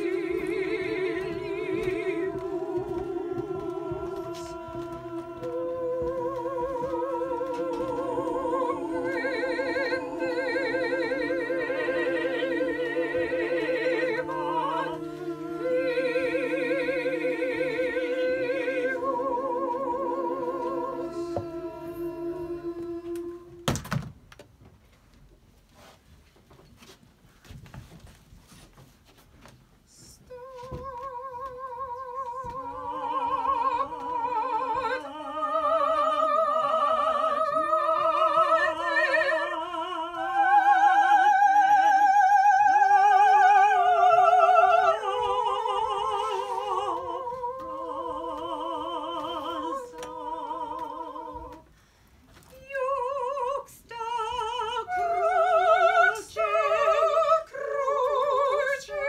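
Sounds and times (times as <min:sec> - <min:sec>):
operatic duet singing: 0:00.0 - 0:23.8, 0:29.9 - 0:51.8, 0:52.4 - 0:59.0.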